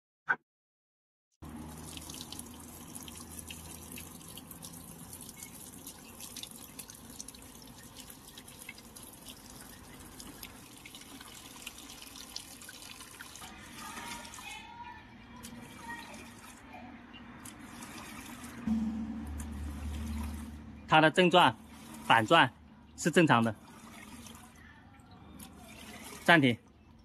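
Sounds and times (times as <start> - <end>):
water pouring into washing machine: 1.4 - 14.6, 15.4 - 18.7, 19.4 - 27.0.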